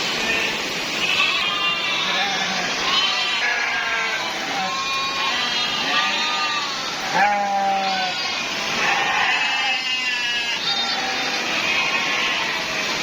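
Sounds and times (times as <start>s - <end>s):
goats bleating: 0.2s - 13.0s.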